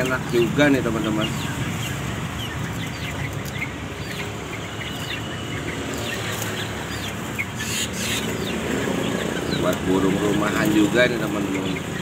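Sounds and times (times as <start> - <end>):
birds chirping and whistling: 0.0 - 12.0.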